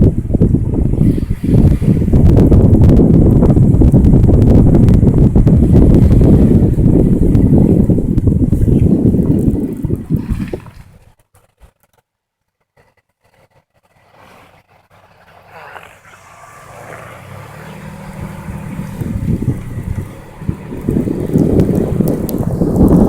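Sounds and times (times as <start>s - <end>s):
wind rumbling on microphone: 0.0s - 11.7s, 13.8s - 23.0s
motor engine running: 0.2s - 10.4s, 13.8s - 23.0s.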